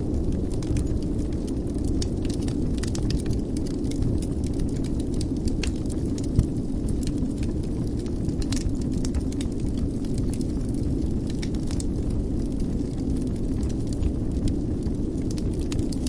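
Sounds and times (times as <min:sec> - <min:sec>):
fire flames rumbling: 0:00.0 - 0:16.0
wood fire crackling and popping: 0:00.0 - 0:16.0.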